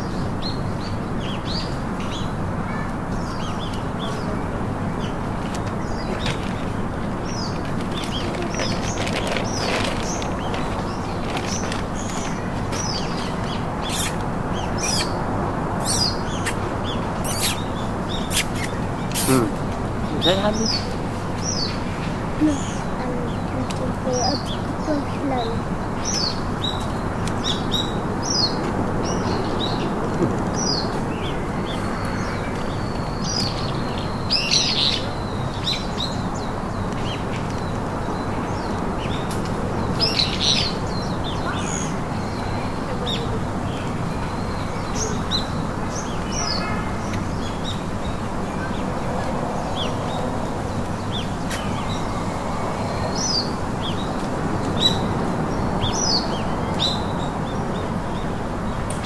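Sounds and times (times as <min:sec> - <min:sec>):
birds chirping: 0:00.0 - 0:59.0
steady background noise: 0:00.0 - 0:59.0.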